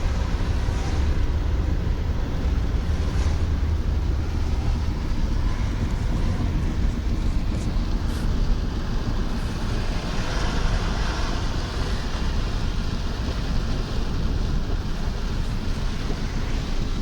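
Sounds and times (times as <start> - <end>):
car road noise rumble: 0.0 - 17.0
tyres hissing on wet road: 0.0 - 17.0.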